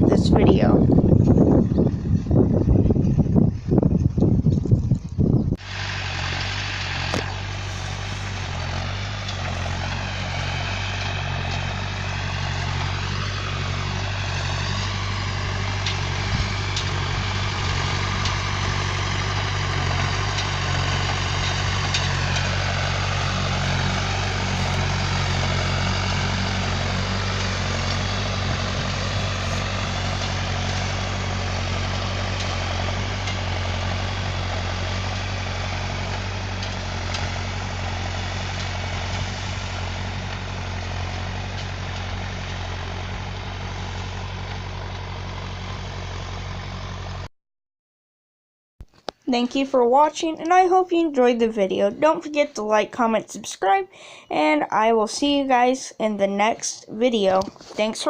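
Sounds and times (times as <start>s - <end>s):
diesel engine running: 0.0s - 47.3s, 48.9s - 58.0s.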